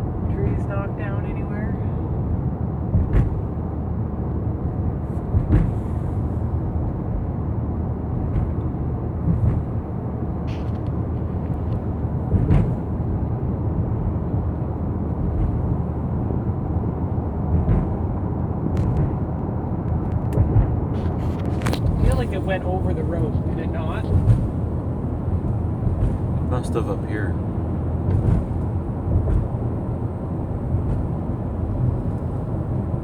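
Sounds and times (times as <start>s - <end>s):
car cabin road rumble: 0.0s - 33.0s.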